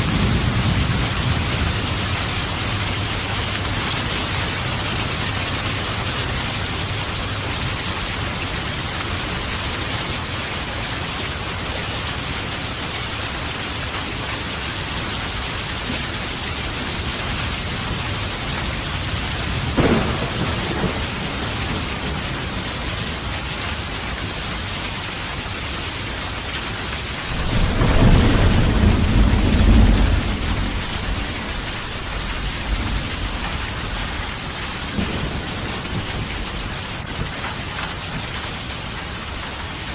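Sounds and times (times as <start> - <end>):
thunder crack and rumble: 0.0 - 11.4, 13.7 - 25.0, 27.0 - 39.9
heavy rain: 0.0 - 39.9.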